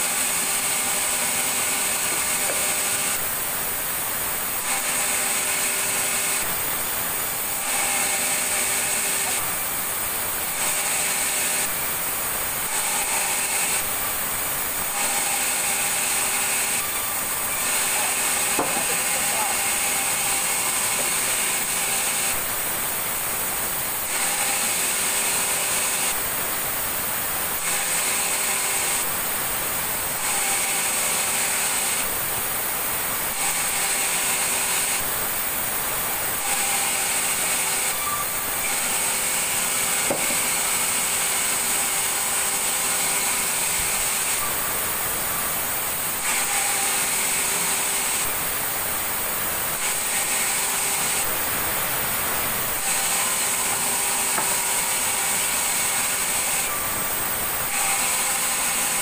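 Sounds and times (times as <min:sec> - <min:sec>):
sawmill saw machinery running: 0:00.0 - 0:59.0.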